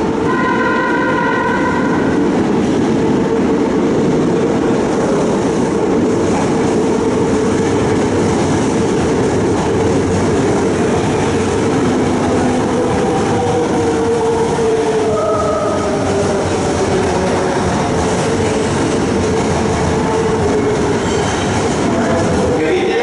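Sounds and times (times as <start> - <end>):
subway train rumbling on rails: 0.0 - 23.0.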